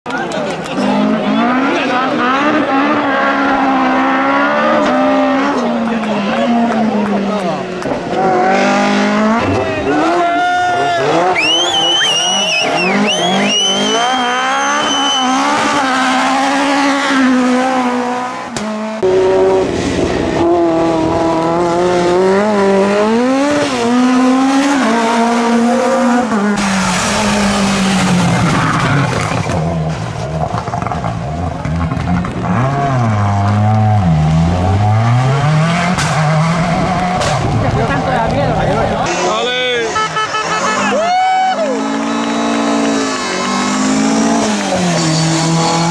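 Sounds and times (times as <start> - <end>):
rally car engines revving: 0.1 - 45.9.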